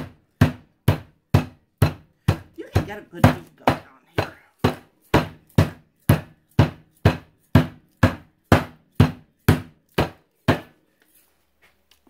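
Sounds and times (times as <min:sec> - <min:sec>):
rolling pin pounding meat: 0:00.0 - 0:10.8.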